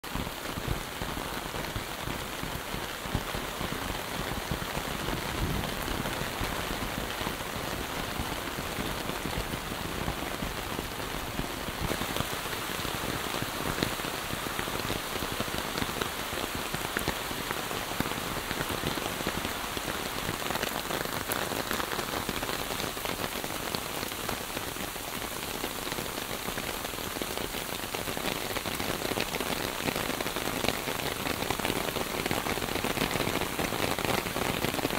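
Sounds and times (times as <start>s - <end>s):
rain falling on leaves: 0.0s - 34.9s.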